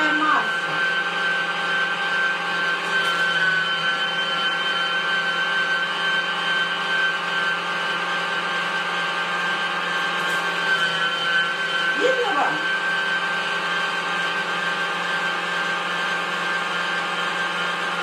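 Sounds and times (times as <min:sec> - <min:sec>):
electric meat grinder whine: 0:00.0 - 0:18.0.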